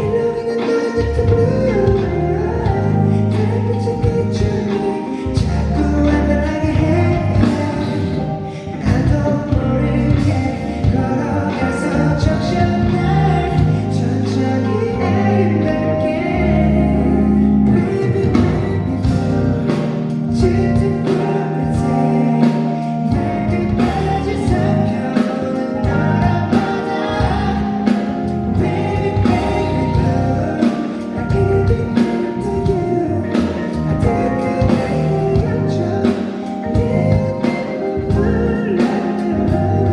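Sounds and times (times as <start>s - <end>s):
amplified backing music with drums: 0.0s - 39.9s
man singing a pop song: 0.0s - 39.9s.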